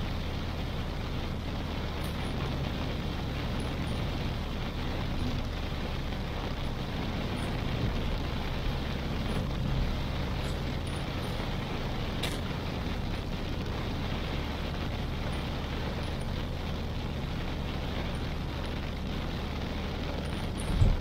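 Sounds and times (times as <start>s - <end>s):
car engine and road rumble: 0.0s - 21.0s
rain and wet road hiss: 0.0s - 21.0s.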